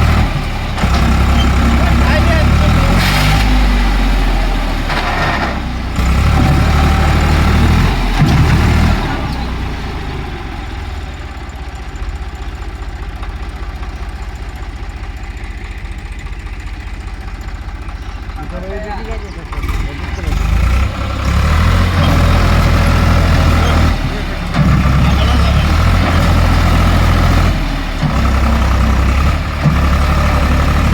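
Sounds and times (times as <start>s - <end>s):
tractor diesel engine: 0.0s - 30.9s.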